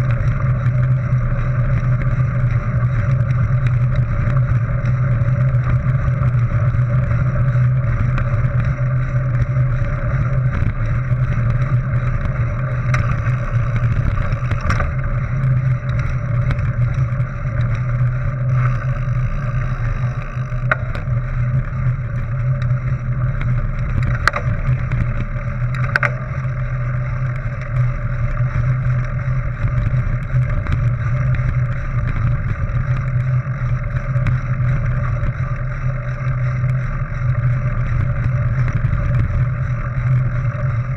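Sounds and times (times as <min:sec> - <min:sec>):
bike clicks and rattles: 0:00.0 - 0:40.9
bike tyres rumbling on gravel: 0:00.0 - 0:40.9.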